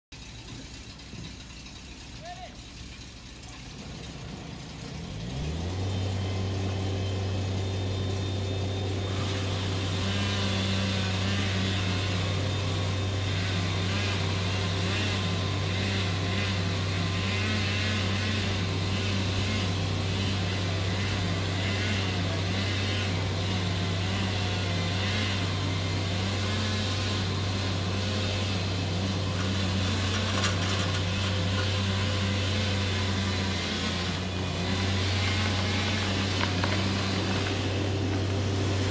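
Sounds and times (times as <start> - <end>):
large machine engine running: 0.1 - 38.9
second engine wavering: 0.1 - 38.9.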